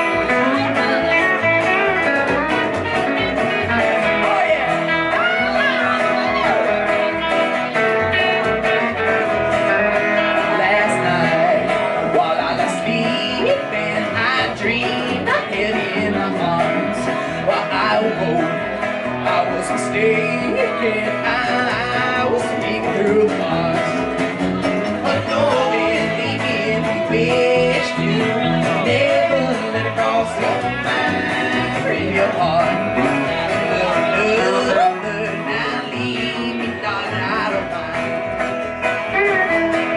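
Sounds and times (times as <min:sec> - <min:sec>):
country band playing: 0:00.0 - 0:39.9
person singing: 0:00.0 - 0:39.9.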